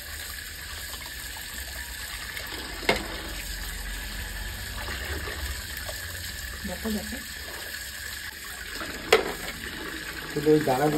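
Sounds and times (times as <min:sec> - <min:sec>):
tap water running into basin: 0:00.0 - 0:10.9.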